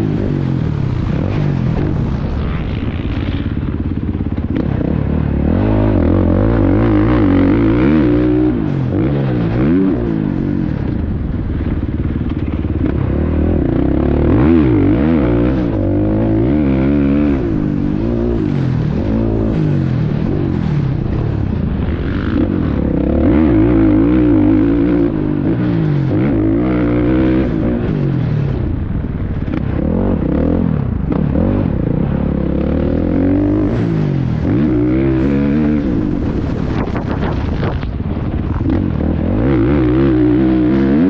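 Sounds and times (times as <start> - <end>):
two-stroke motorbike engine revving: 0.0 - 28.8, 29.4 - 41.0.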